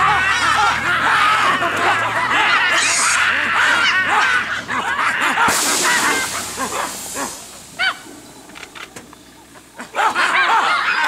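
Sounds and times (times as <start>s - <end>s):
baboons screaming: 0.0s - 8.3s, 9.8s - 11.0s.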